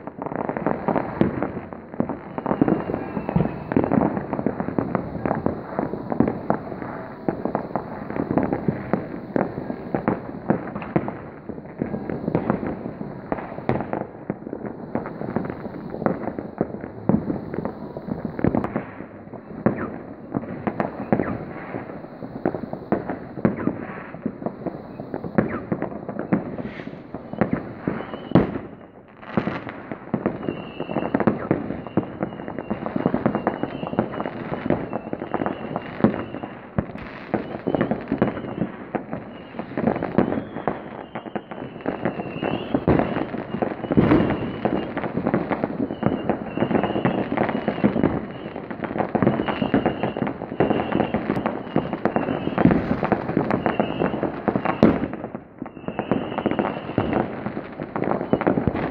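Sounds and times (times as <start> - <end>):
fireworks banging and crackling: 0.0 - 58.9.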